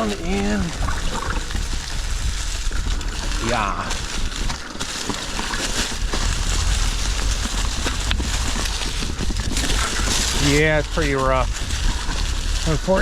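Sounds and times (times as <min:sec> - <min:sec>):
bike rattling over rocks: 0:00.0 - 0:13.0
bike tyres crunching over ground: 0:00.0 - 0:13.0
wind rumbling on microphone: 0:00.0 - 0:13.0.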